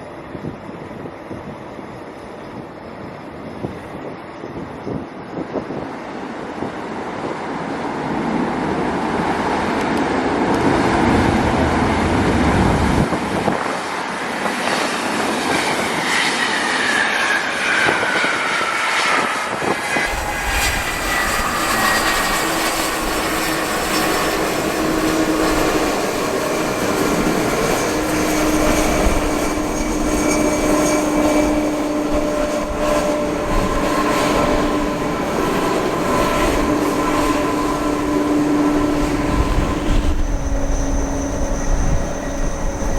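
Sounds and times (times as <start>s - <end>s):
jet engines rushing and whining: 0.0s - 42.9s.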